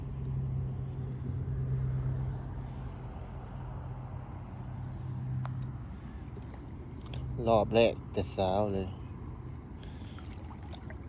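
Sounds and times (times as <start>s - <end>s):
insects chirping: 0.0s - 11.0s
low motor hum: 0.0s - 11.0s.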